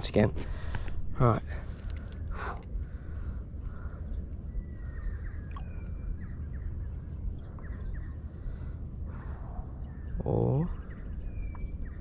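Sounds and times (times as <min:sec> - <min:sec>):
steady low rumble: 0:00.0 - 0:12.0
faint bird chirps: 0:02.0 - 0:12.0.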